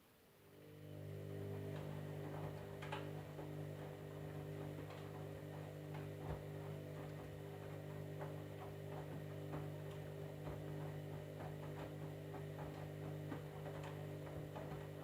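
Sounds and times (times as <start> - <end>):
washing machine humming: 0.1 - 15.0.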